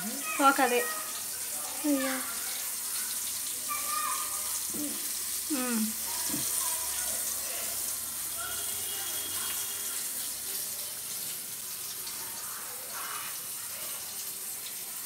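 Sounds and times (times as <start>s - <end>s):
prawns deep-frying in oil: 0.0s - 15.0s.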